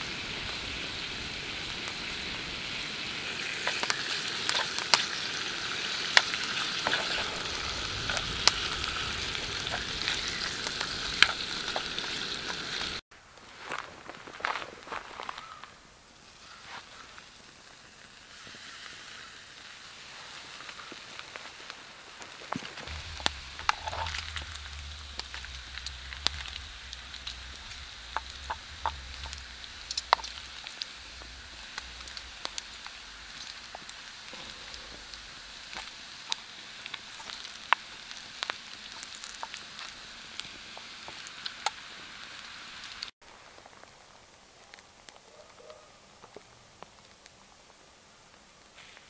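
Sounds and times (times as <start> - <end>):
bacon sizzling and popping: 0.0 - 13.4, 16.2 - 49.0.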